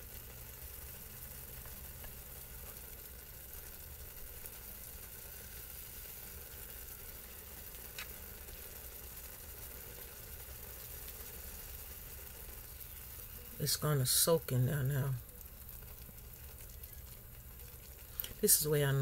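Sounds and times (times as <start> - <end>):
noodles sizzling in a pan: 0.0 - 19.0.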